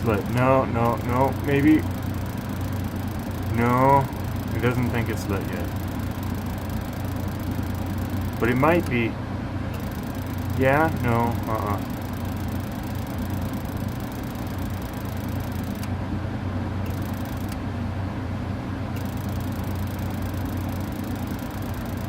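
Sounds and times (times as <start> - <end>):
gas furnace humming: 0.0 - 22.0.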